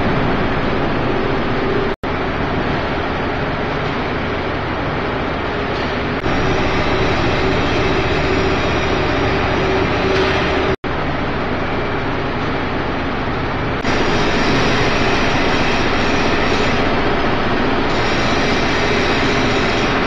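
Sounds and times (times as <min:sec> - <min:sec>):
steady hum tone: 0:00.0 - 0:20.0
vibrating screen machine noise: 0:00.0 - 0:20.0.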